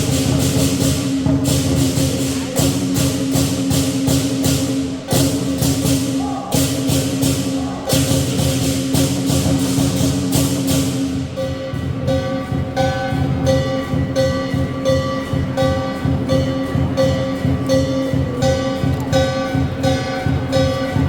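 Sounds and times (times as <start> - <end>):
cymbals clashing: 0.0 - 21.0
drum beating: 0.0 - 21.0.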